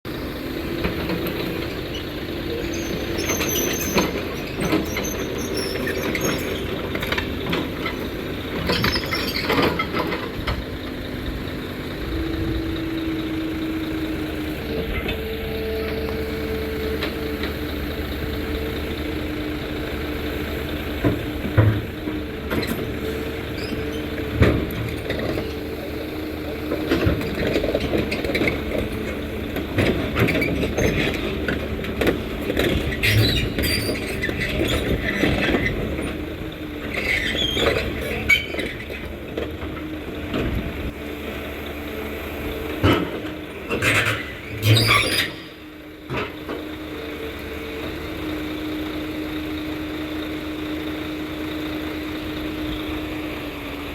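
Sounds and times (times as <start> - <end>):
excavator engine and hydraulics: 0.1 - 53.9.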